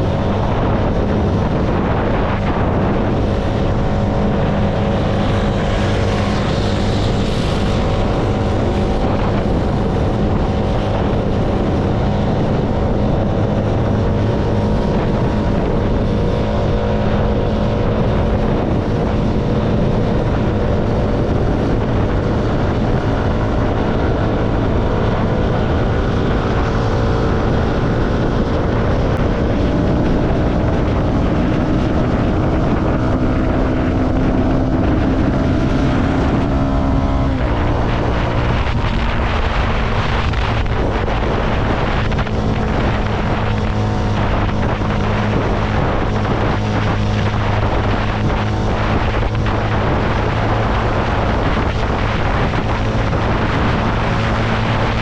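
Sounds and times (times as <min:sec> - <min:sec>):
motorcycle engine cruising: 0:00.0 - 0:55.0
road and wind noise: 0:00.0 - 0:55.0.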